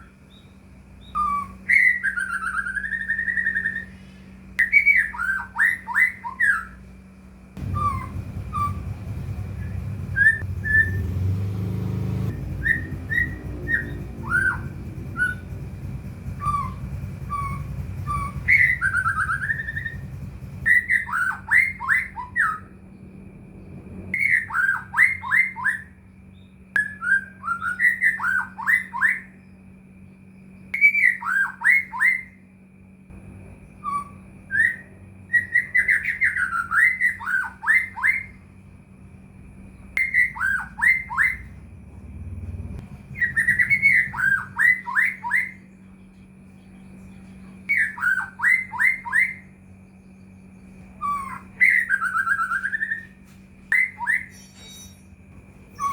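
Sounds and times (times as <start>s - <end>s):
songbird whistling: 0.0s - 6.9s, 7.6s - 32.6s, 33.6s - 38.7s, 39.7s - 41.6s, 43.0s - 46.0s, 46.8s - 55.9s
faint steady hum: 0.0s - 55.9s.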